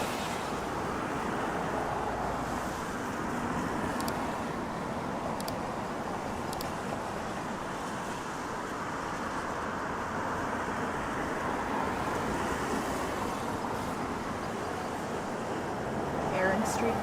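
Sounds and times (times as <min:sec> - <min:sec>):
car tyres hissing on wet street: 0:00.0 - 0:17.0.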